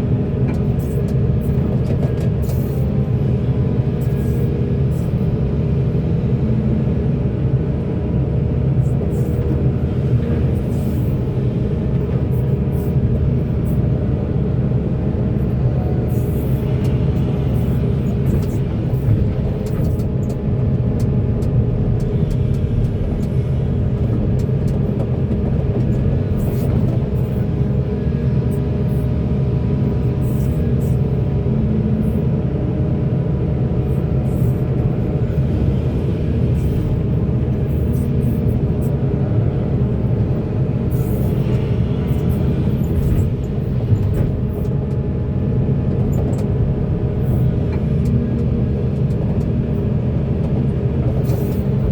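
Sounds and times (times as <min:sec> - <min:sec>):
excavator diesel engine drone: 0:00.0 - 0:51.9.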